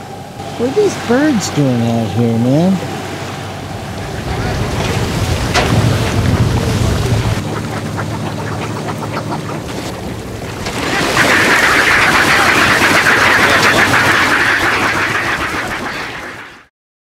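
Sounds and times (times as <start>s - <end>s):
seabirds cackling: 0.0s - 16.7s
splashing water: 0.5s - 16.5s.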